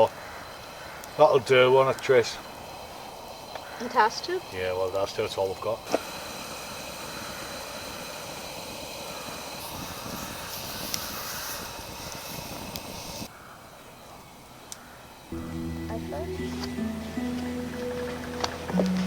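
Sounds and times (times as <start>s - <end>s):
pressure lantern hissing: 0.0s - 19.0s.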